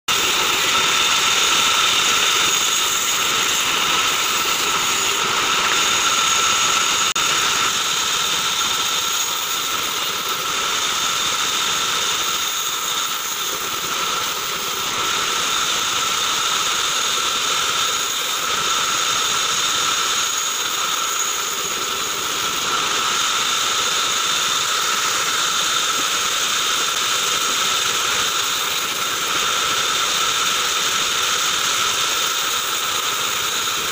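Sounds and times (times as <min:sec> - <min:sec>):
band saw whining: 0:00.1 - 0:33.9.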